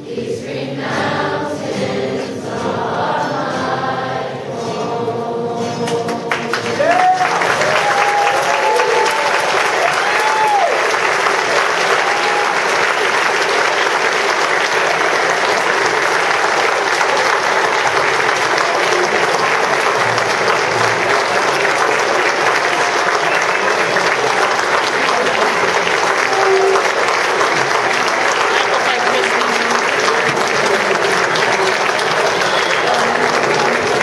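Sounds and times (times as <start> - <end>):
audience applauding: 5.8 - 34.0
voices cheering: 6.5 - 34.0.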